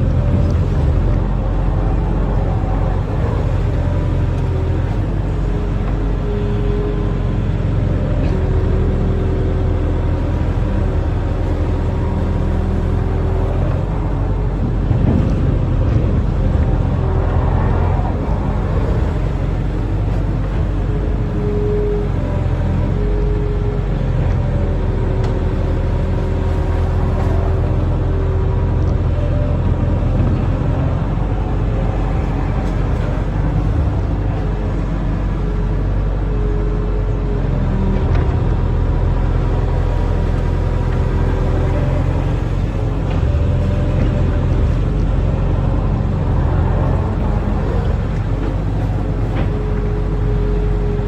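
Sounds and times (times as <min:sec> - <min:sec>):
diesel engine rumbling: 0:00.0 - 0:51.0
faint engine whine: 0:00.0 - 0:51.0.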